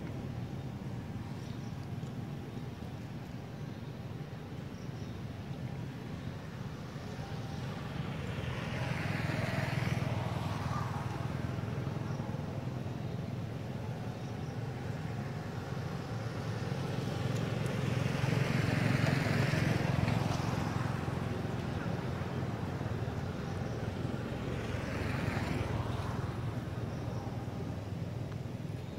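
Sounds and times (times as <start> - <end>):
vehicles passing by: 0.0 - 28.9.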